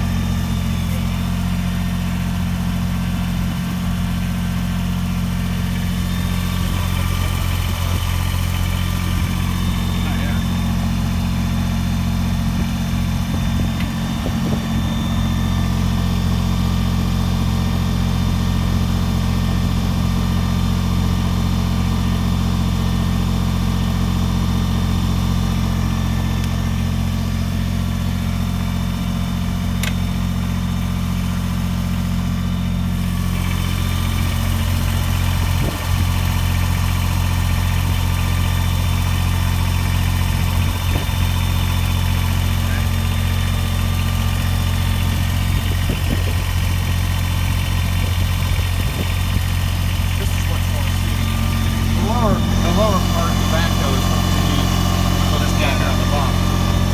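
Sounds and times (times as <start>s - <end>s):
diesel tractor engine idling: 0.0s - 56.9s.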